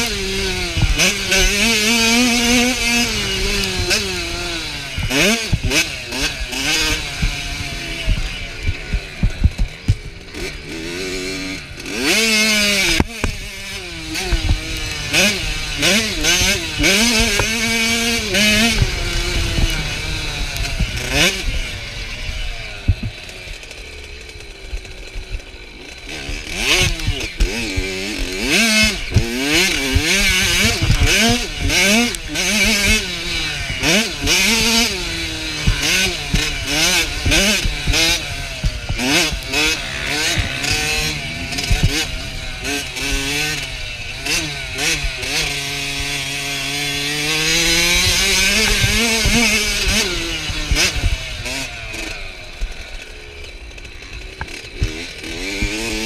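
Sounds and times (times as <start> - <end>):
two-stroke motorbike engine revving: 0.0 - 56.0.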